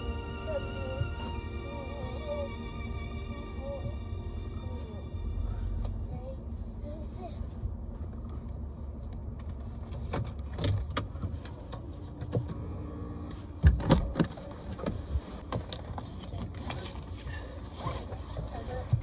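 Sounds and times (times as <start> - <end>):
car running from inside: 0.0 - 17.6.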